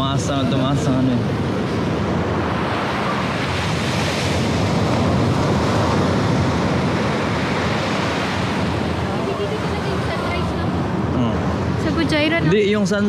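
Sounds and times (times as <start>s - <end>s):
sea waves breaking on beach: 0.0s - 12.9s.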